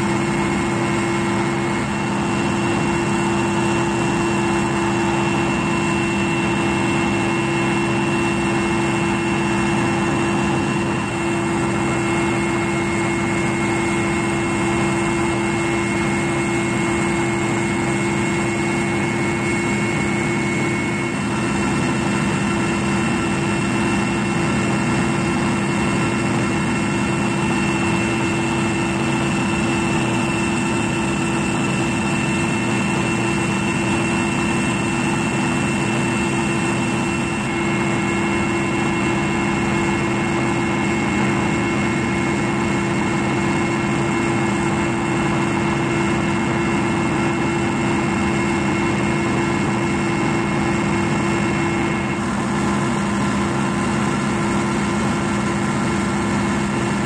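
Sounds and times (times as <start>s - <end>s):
helicopter engine and rotor drone: 0.0s - 57.0s
high whine: 0.0s - 57.0s.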